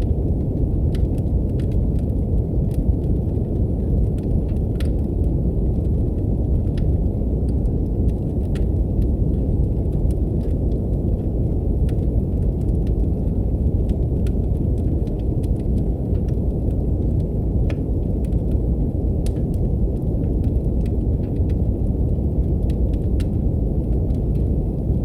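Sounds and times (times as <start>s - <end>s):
deep brown noise: 0.0s - 25.0s
wood fire crackling: 0.0s - 25.0s.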